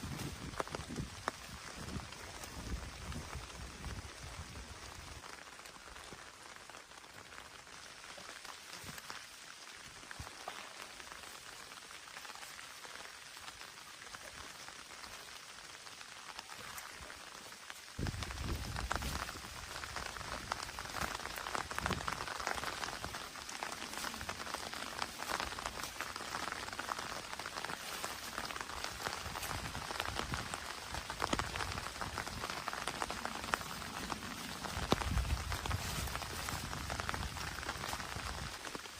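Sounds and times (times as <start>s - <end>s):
raindrops ticking: 0.0s - 38.9s
steady rain: 0.0s - 38.9s.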